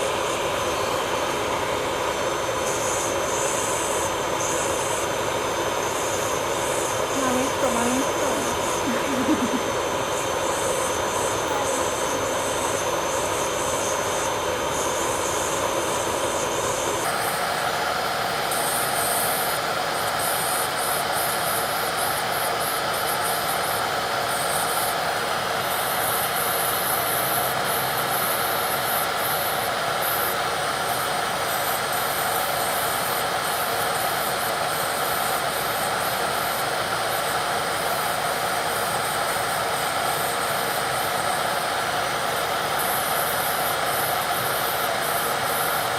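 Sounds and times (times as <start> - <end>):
electric nail drill running: 0.0 - 45.9.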